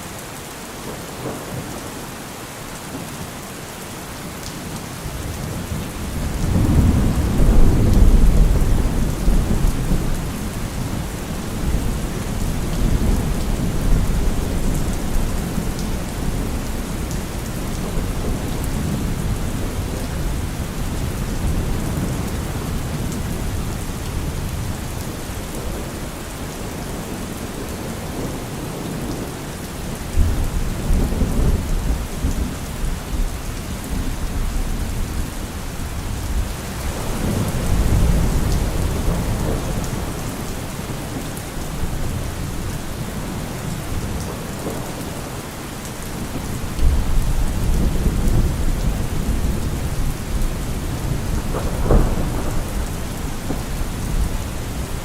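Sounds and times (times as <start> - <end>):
rain falling: 0.0 - 55.0
thunder rumbling: 5.2 - 26.2, 30.1 - 45.4, 46.1 - 55.0.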